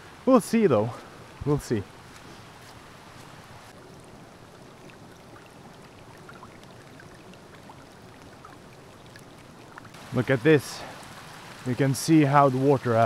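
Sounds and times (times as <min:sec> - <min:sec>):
rain: 0:00.0 - 0:13.0
stream water running: 0:00.0 - 0:13.0.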